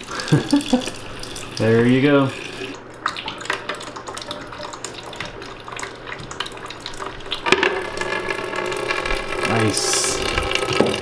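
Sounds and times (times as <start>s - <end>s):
steady hum: 0.0s - 11.0s
water trickling into plastic bucket: 0.0s - 11.0s.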